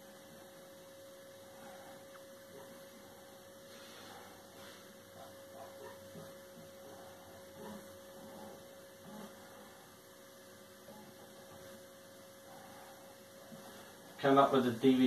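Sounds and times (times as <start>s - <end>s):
faint electrical hum: 0.0s - 15.0s
faint soft sounds: 0.0s - 15.0s.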